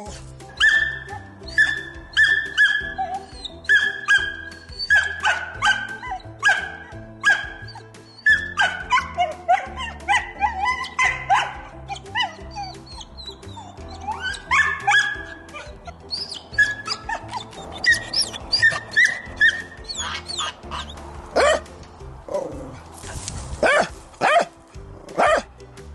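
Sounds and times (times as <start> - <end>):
background music: 0.0 - 25.9
dog yapping: 0.6 - 21.7, 22.4 - 24.5, 25.1 - 25.5.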